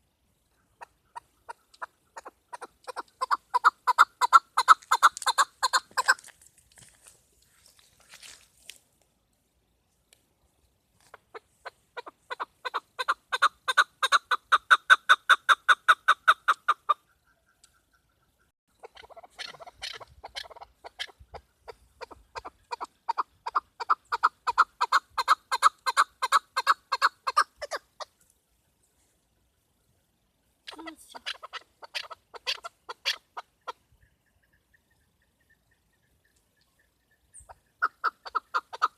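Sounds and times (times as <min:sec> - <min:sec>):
partridge clucking call: 0:00.0 - 0:06.3, 0:11.0 - 0:28.6, 0:30.6 - 0:38.9.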